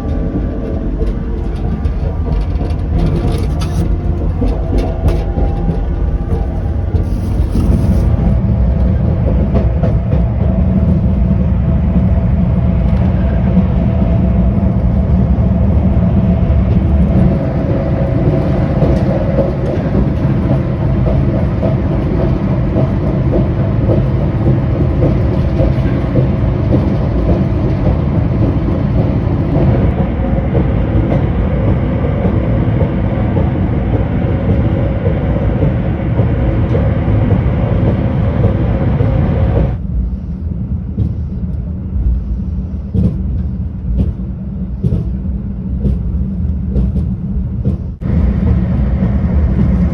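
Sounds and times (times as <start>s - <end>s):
high-speed train rumbling: 0.0s - 49.9s.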